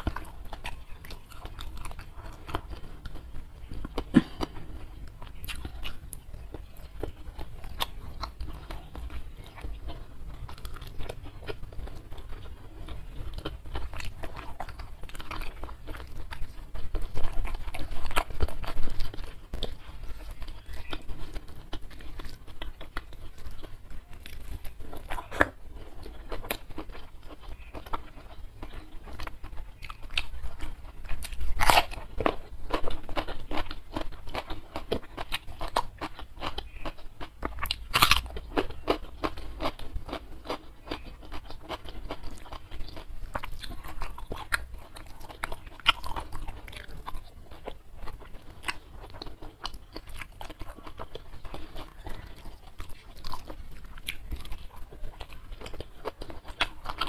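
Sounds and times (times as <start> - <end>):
crunchy bites: 0.0 - 57.0
person chewing and crunching: 0.0 - 57.0.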